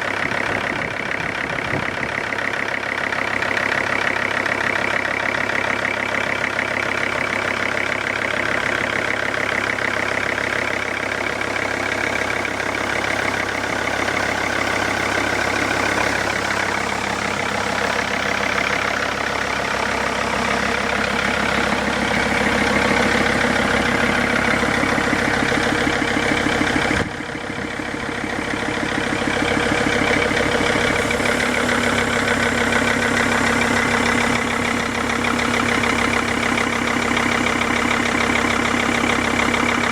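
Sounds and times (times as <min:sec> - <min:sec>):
car engine idling: 0:00.0 - 0:39.9
fast regular engine knock: 0:00.0 - 0:39.9.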